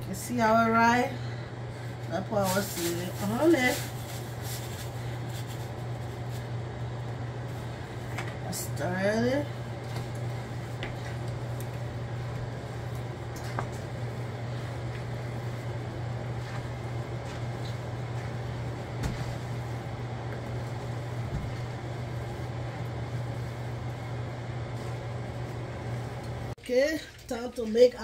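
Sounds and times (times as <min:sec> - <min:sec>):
low hum of kitchen fan: 0:00.0 - 0:28.0.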